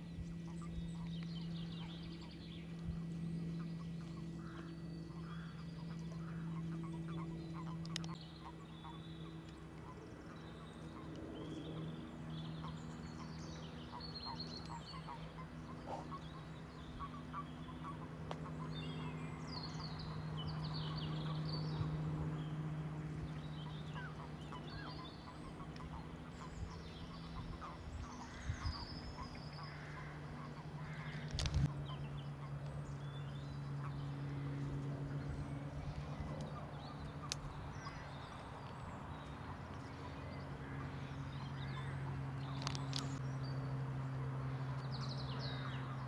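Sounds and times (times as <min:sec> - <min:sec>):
birds chirping and trilling: 0:00.0 - 0:46.0
steady low hum: 0:00.0 - 0:46.0.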